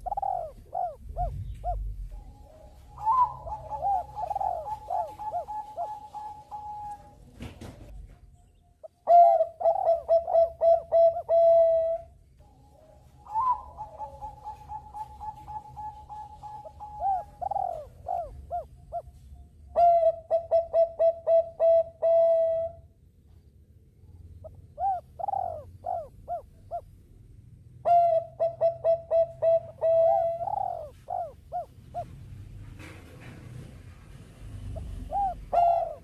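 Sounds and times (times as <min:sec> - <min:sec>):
doves cooing: 0:00.0 - 0:08.0, 0:08.8 - 0:22.8, 0:24.3 - 0:27.0, 0:27.8 - 0:36.0.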